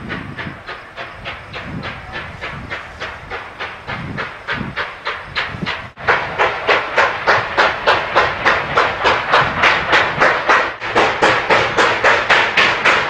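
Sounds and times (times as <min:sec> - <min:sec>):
steam locomotive exhaust chuffing: 0:00.0 - 0:13.0.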